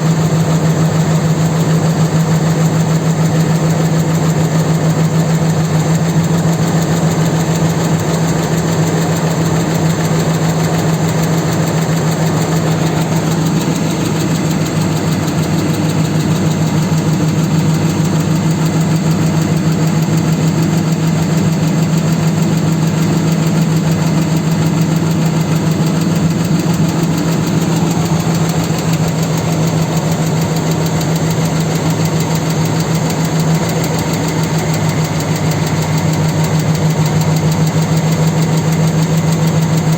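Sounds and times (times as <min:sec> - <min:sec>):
engine idling with knock: 0:00.0 - 0:39.9.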